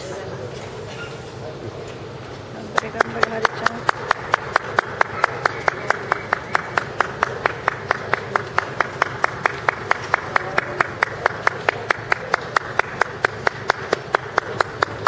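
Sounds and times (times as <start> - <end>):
crowd murmur: 0.0 - 15.0
rhythmic hand-clapping: 2.7 - 15.0.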